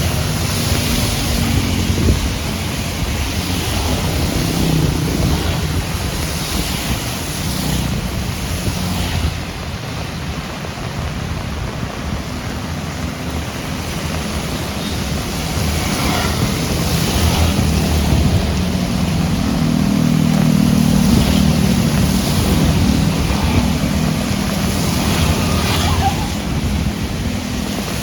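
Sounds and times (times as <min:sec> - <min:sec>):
heavy rain falling: 0:00.0 - 0:28.0
tyres swishing on wet road: 0:00.0 - 0:28.0
vehicle engine rumble: 0:00.0 - 0:28.0.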